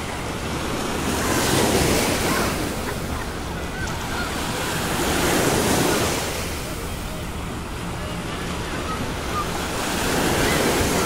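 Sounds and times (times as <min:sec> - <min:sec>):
sea waves breaking on beach: 0:00.0 - 0:11.0.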